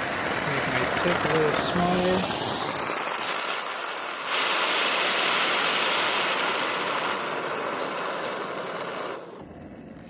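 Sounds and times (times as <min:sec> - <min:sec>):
torch flame hissing: 0:00.0 - 0:10.0.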